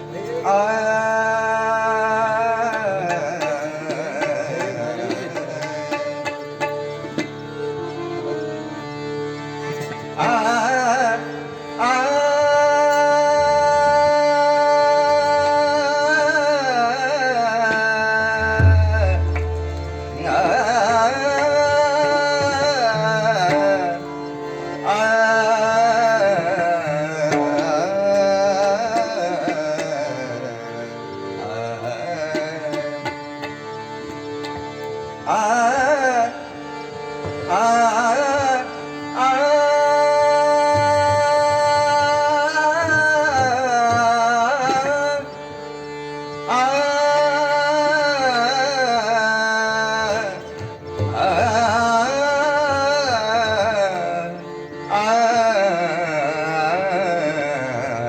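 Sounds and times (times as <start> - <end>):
man singing ornamented notes: 0.0 - 7.3, 9.7 - 33.6, 37.3 - 45.4, 46.4 - 58.0.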